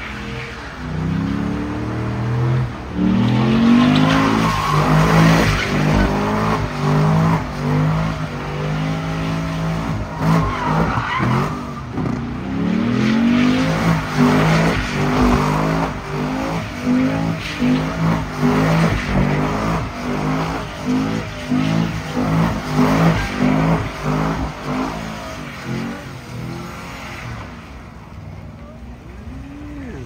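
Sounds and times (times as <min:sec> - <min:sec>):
car engine revving: 0:00.0 - 0:27.8
tyres squealing and skidding: 0:00.0 - 0:30.0.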